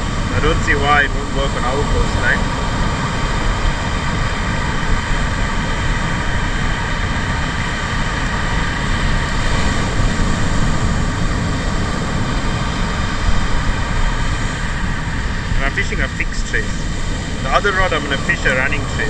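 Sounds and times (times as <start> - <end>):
wind roaring: 0.0 - 19.0.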